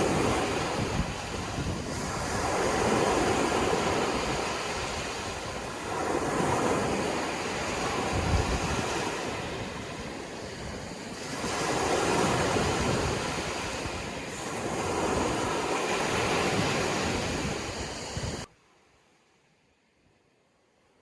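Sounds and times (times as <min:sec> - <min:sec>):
sea waves breaking on shore: 0:00.0 - 0:18.7.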